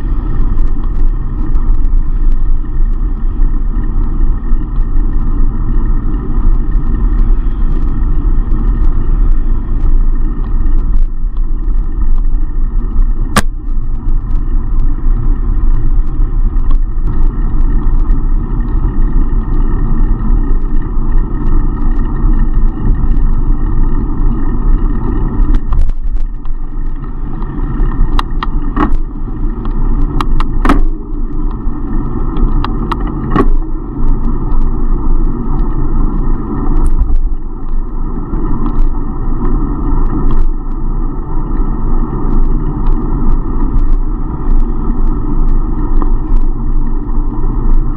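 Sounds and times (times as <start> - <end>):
bicycle road noise and rushing air: 0.0 - 47.9.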